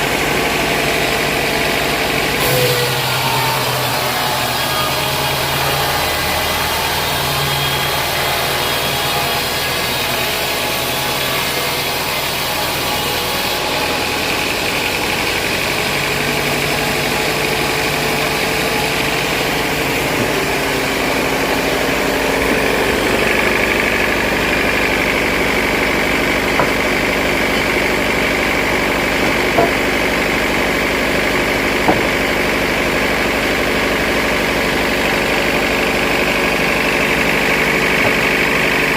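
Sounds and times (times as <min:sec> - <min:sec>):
sawmill machine drone: 0:00.0 - 0:38.9.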